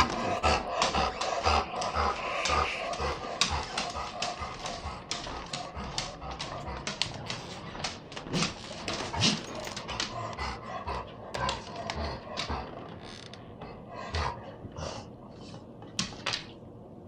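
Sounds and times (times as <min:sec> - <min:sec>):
dog breathing rapidly: 0:00.0 - 0:15.7.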